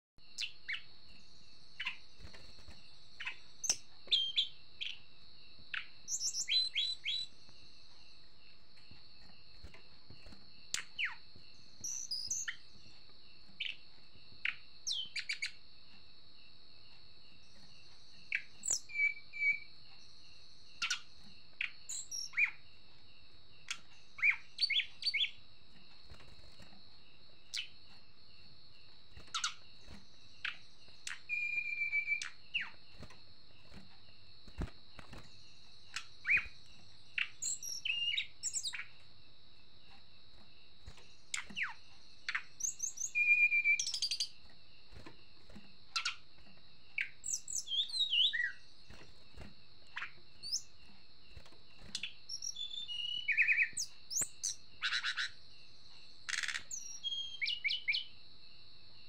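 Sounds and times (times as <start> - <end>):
bird chirping and ticking: 0.3 - 55.4, 56.2 - 58.1.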